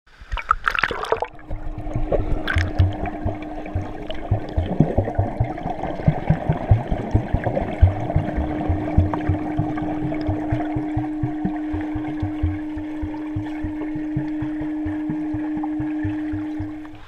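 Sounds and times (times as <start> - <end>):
water splash: 0.2 - 17.0
steady low hum: 1.2 - 17.0
muffled underwater thuds: 1.3 - 17.0.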